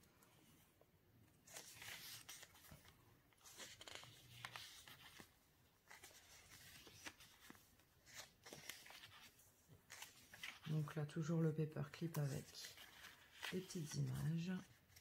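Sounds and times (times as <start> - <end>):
paper pages rustling: 1.4 - 15.0.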